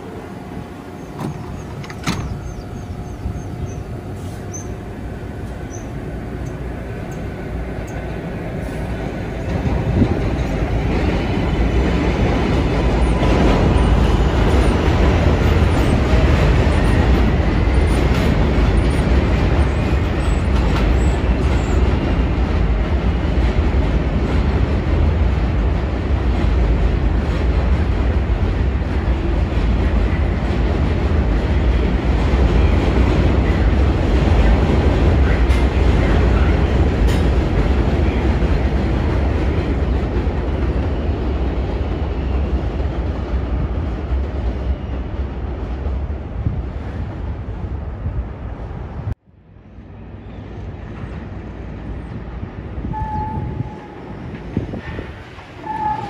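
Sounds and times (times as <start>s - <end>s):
subway train rumbling by: 0.0s - 56.0s.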